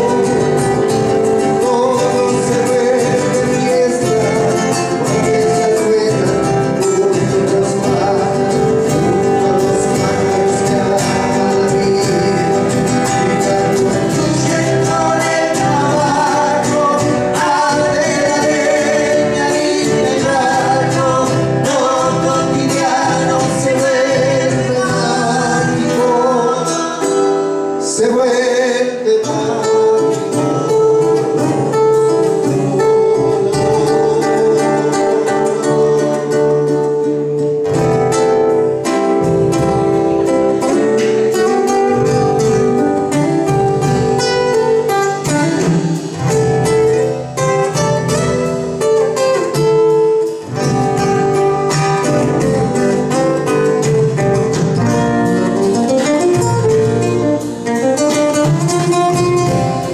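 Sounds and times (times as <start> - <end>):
man singing: 0.0 - 37.7, 38.8 - 59.9
acoustic guitars playing: 0.0 - 59.9.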